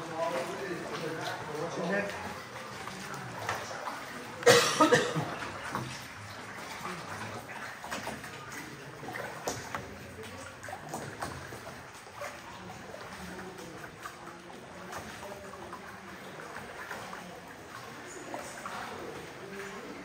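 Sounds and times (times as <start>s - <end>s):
oar splashes: 0.0s - 20.0s
water sloshing around boat: 0.0s - 20.0s.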